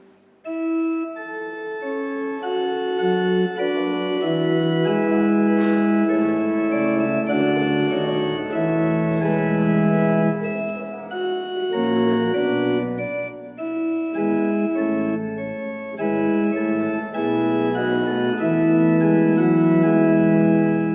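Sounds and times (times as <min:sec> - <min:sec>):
organ playing slow chords: 0:00.0 - 0:20.9.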